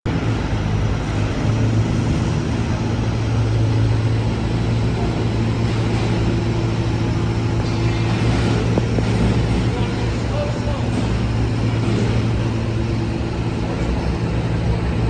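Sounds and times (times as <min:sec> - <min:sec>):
dump truck engine droning: 0:00.1 - 0:15.0.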